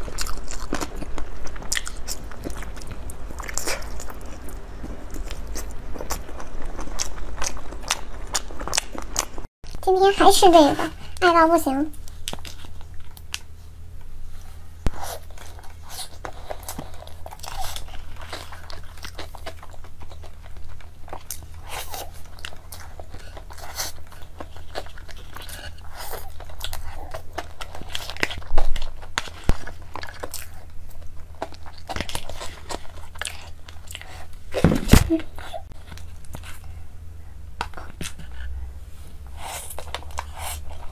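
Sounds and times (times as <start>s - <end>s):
person chewing and crunching: 0.0s - 9.9s, 11.9s - 13.6s, 14.5s - 36.8s, 39.2s - 40.9s.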